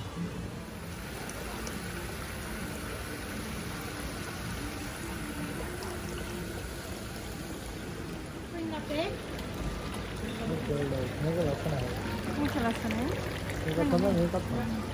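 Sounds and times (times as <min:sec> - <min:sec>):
fountain water splashing: 0:00.1 - 0:14.9.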